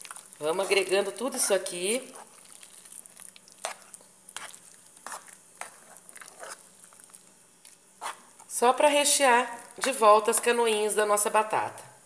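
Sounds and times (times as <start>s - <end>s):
spoon stirring mashed potato: 0.0s - 8.8s, 9.4s - 10.6s.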